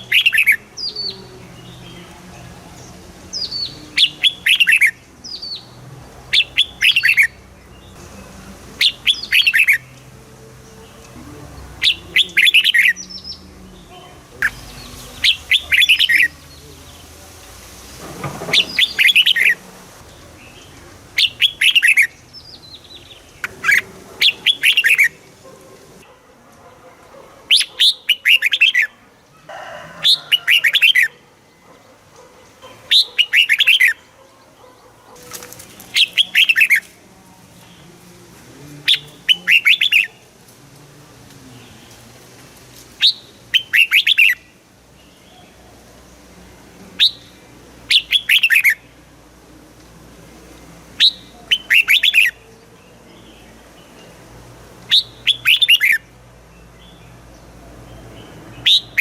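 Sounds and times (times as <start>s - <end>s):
bulbul song: 0.0s - 26.0s, 32.7s - 34.1s, 35.3s - 40.4s, 43.0s - 49.9s, 50.5s - 59.0s.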